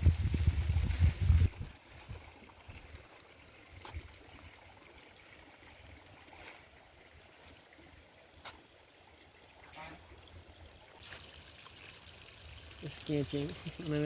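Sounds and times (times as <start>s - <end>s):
faint running water: 0.0s - 14.0s.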